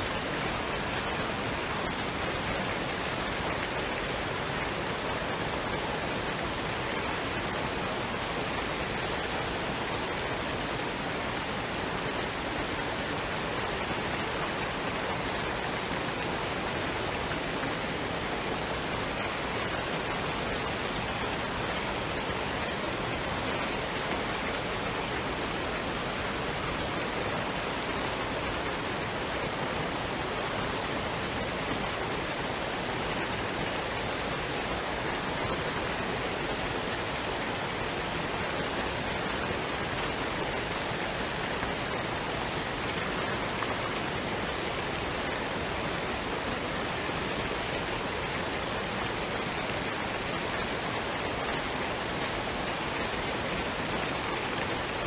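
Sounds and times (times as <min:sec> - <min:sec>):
waterfall and stream roaring: 0:00.0 - 0:55.0.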